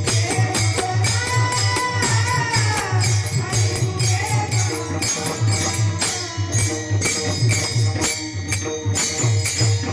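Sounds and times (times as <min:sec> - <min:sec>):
jingling percussion: 0:00.0 - 0:09.9.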